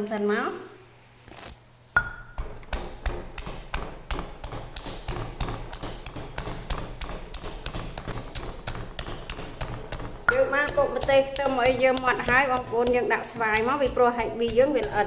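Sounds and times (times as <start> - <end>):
pestle pounding in stone mortar: 2.0 - 15.0.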